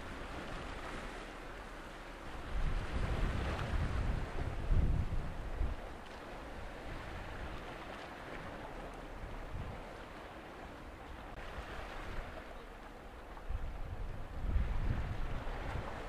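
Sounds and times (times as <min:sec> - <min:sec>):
water: 0:00.0 - 0:16.0
wind: 0:00.0 - 0:16.0
wind buffeting microphone: 0:02.2 - 0:12.5, 0:13.3 - 0:16.0.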